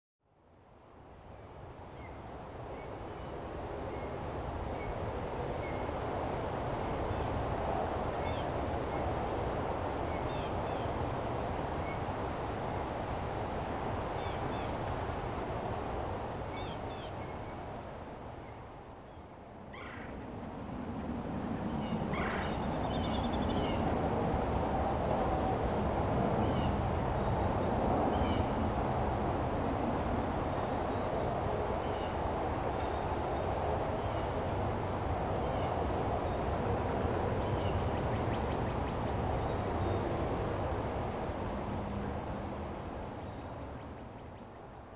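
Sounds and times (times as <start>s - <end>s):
low rumbling background noise: 0.3s - 44.9s.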